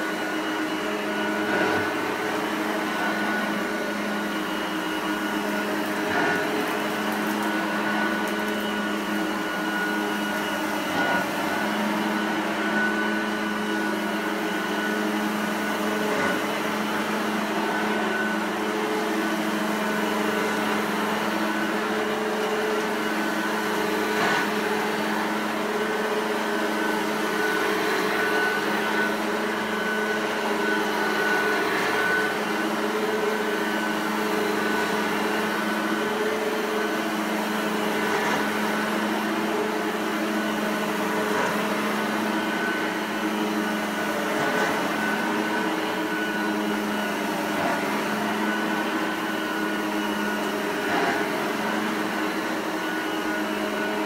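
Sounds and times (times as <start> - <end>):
upright vacuum cleaner running: 0.0 - 54.0.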